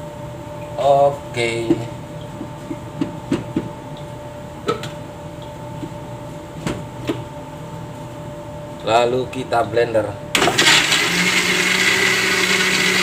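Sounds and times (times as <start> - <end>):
steady background hum: 0.0 - 10.6.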